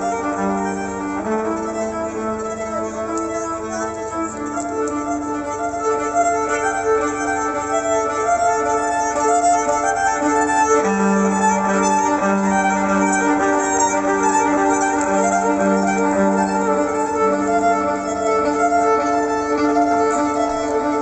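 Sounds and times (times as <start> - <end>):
lower held melodic line: 0.0 - 21.0
violin long held notes: 0.0 - 21.0.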